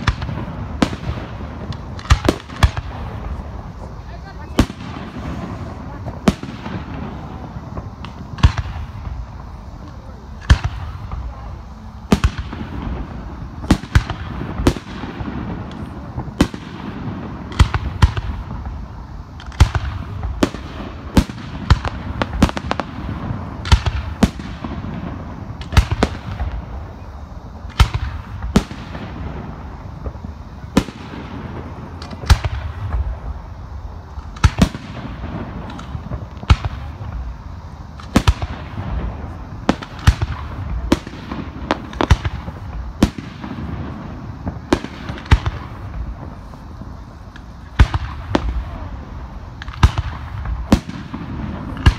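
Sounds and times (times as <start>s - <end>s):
continuous low rumble: 0.0s - 51.9s
firework shells bursting: 0.0s - 51.9s.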